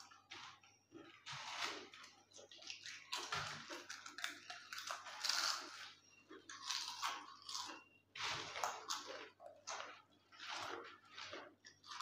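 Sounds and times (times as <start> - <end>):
potato chips crunching: 0.0 - 12.0.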